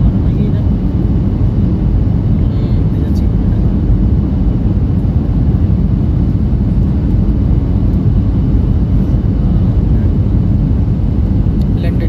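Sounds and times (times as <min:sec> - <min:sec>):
jet engines rumbling: 0:00.0 - 0:12.0
rushing air in aircraft cabin: 0:00.0 - 0:12.0.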